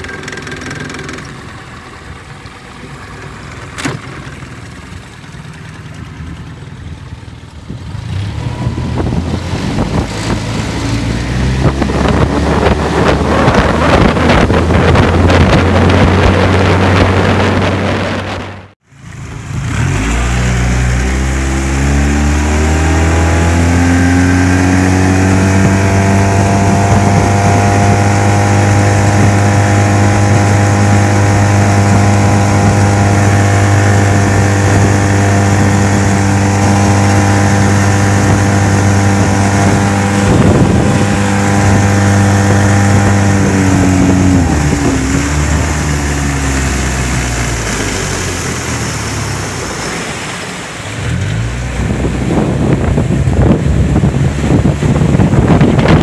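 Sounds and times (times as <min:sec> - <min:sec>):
outboard motor running: 0:00.0 - 0:56.0
water rushing past: 0:00.0 - 0:56.0.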